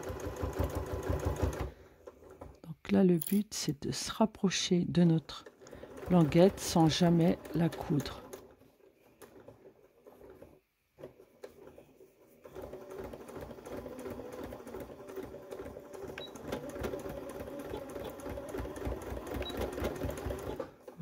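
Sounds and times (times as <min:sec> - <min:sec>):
sewing machine stitching: 0:00.0 - 0:02.6, 0:05.0 - 0:21.0.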